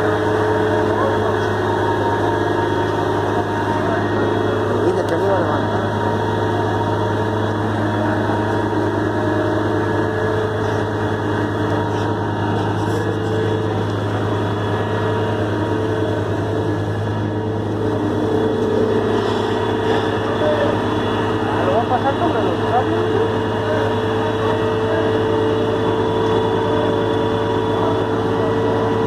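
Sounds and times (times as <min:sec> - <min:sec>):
heavy truck engine running: 0:00.0 - 0:29.0.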